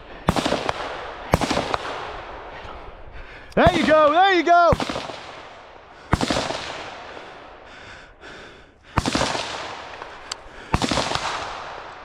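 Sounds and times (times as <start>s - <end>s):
gunshots with echoing tail: 0.0s - 2.8s, 3.6s - 7.7s, 8.9s - 12.0s.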